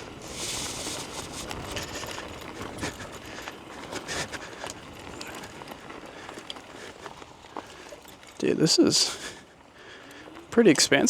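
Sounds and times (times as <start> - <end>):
electric scooter rattling on dirt trail: 0.0 - 11.0.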